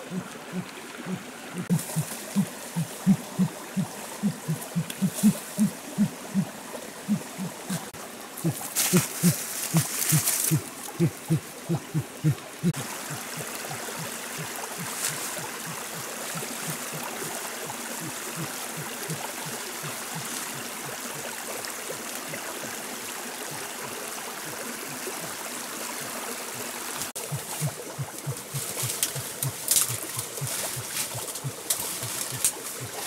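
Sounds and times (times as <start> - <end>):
leaves and brush rustling: 0.0 - 21.0, 26.6 - 33.0
stream flowing: 0.0 - 33.0.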